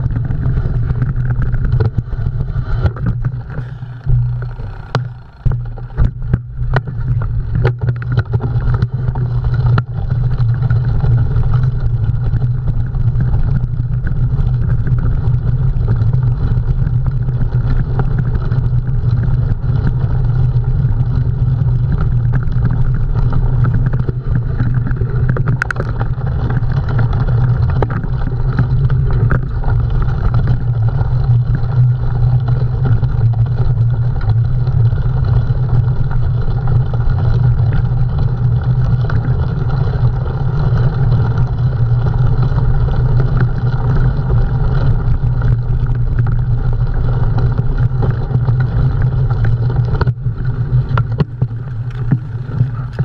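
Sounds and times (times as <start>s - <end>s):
bike clicks and rattles: 0.0s - 53.0s
bike rumbling over terrain: 0.0s - 53.0s.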